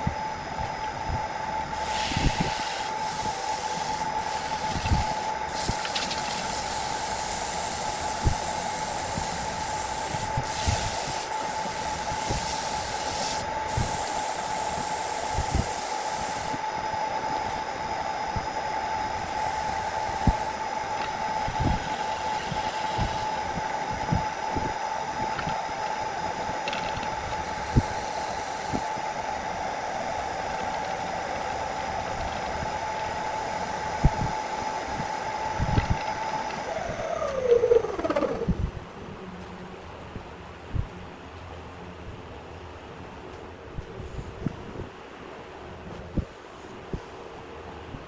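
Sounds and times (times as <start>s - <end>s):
wood lathe whining: 0.0s - 39.0s.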